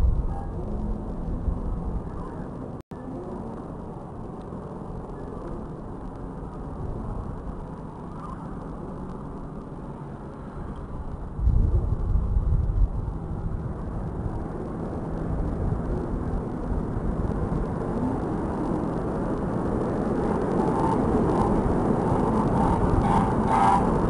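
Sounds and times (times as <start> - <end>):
vehicle running: 0.0 - 8.0, 8.6 - 24.0
road traffic: 0.0 - 24.0
wind rumbling on microphone: 0.0 - 24.0.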